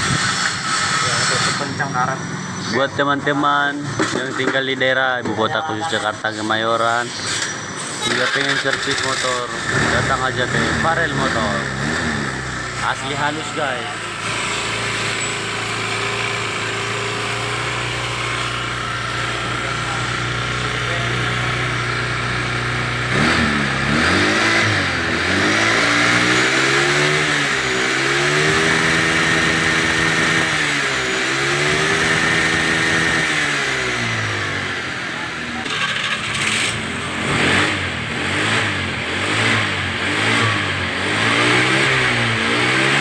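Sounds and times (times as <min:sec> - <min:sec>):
scooter engine idling and revving: 0:00.0 - 0:43.0.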